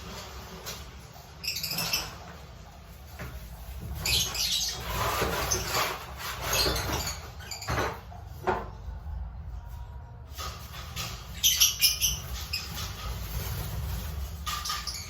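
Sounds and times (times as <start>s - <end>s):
birds chirping: 0.7s - 9.9s, 10.6s - 15.0s.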